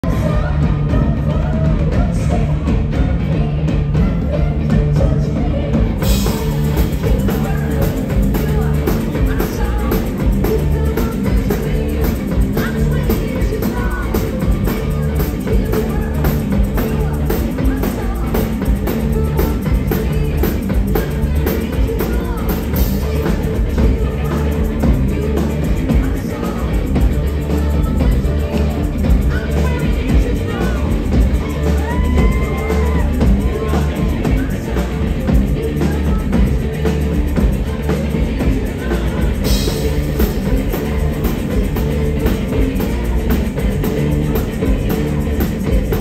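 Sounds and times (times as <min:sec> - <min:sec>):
drum kit with cymbals: 0:00.0 - 0:46.0
electric guitar: 0:00.0 - 0:46.0
shaken percussion: 0:00.0 - 0:46.0
woman singing lead vocal: 0:00.0 - 0:46.0.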